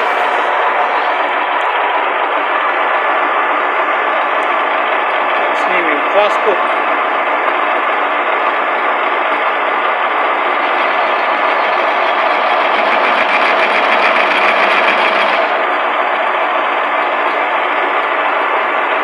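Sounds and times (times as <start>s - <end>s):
lathe tool cutting metal: 0.0s - 19.0s
metal lathe running: 0.0s - 19.0s.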